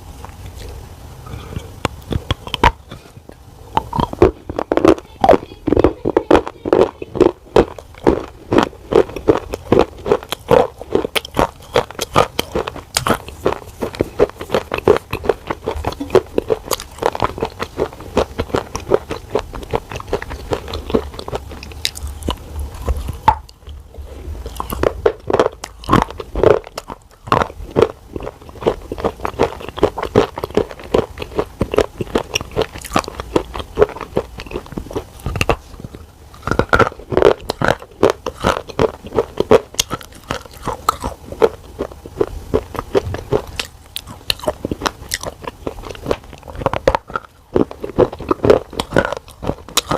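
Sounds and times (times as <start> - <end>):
person crunching hard cube: 0.2 - 49.9.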